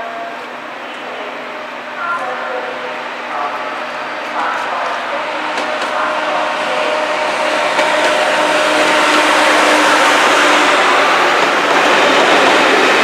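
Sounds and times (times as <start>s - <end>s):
diesel locomotive engine passing: 0.0s - 13.0s
train wheels on rails: 0.0s - 13.0s.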